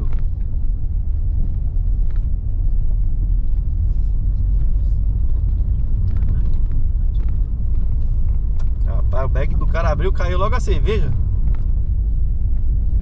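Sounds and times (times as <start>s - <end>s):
car tyres on dirt road: 0.0s - 13.0s.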